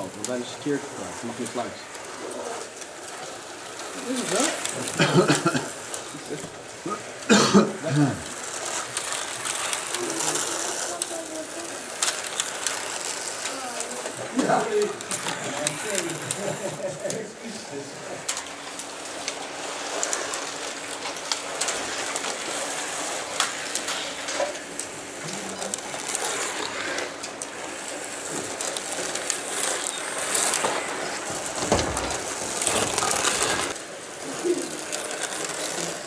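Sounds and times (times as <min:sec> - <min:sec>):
guide braids clattering in rails: 0:00.0 - 0:36.0
slot car motors whirring: 0:00.0 - 0:36.0.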